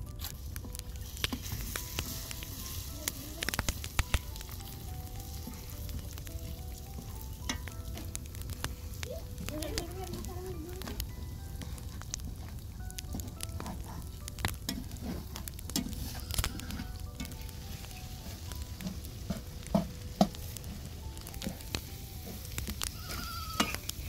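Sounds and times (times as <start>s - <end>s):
eggs sizzling in a wok: 0.0s - 24.0s.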